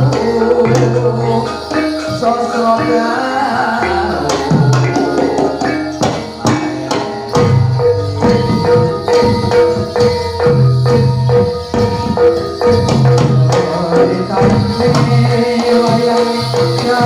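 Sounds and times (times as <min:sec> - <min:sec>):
hand drum beats: 0:00.0 - 0:17.0
jingling percussion: 0:00.0 - 0:17.0.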